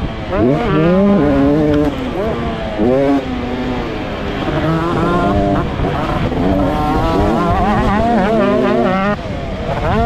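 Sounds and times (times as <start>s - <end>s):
pit bike engine revving: 0.0s - 10.0s
rough low rush of noise: 0.0s - 10.0s.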